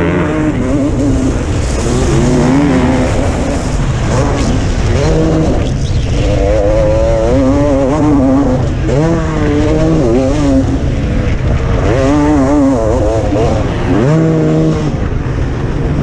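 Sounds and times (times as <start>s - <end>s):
motocross bike engine revving: 0.0s - 16.0s
wind rushing: 0.0s - 16.0s.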